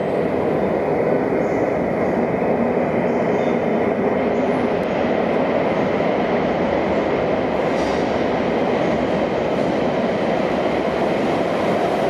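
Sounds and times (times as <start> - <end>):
train wheels on track echoing: 0.0 - 12.0.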